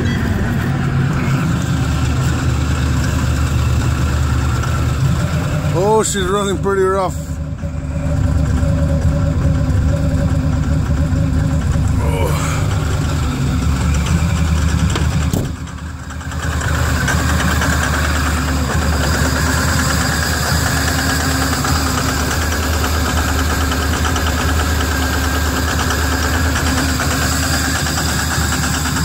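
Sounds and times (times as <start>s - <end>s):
diesel engine idling rough: 0.0s - 29.0s
engine knock: 0.0s - 29.0s.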